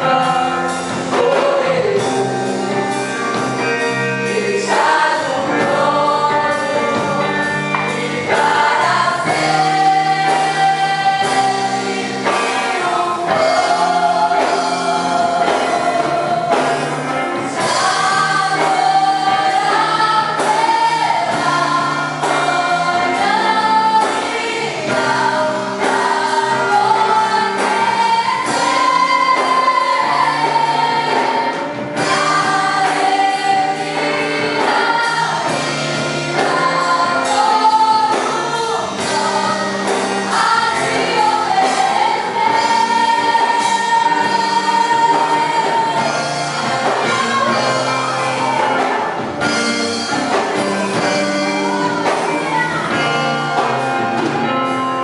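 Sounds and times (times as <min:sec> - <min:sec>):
choir singing: 0:00.0 - 0:54.8
band playing: 0:00.0 - 0:55.0.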